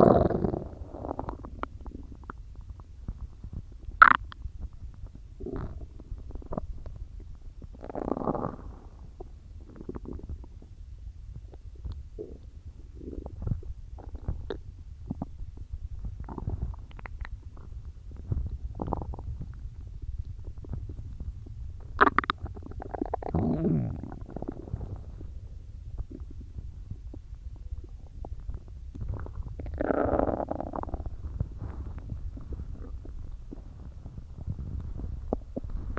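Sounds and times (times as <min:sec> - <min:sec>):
stomach gurgling: 0:00.0 - 0:35.9.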